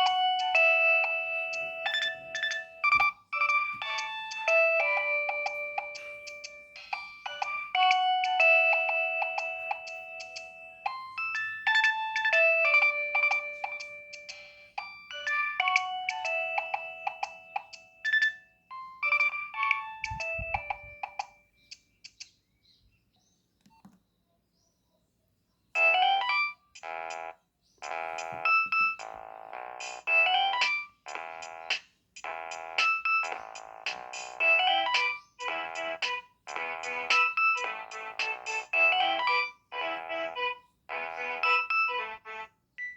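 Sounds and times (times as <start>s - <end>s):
beeping ringtone melody: 0.0s - 21.4s, 25.8s - 42.9s
buzzy ringtone phrases: 0.0s - 21.4s, 25.8s - 42.9s.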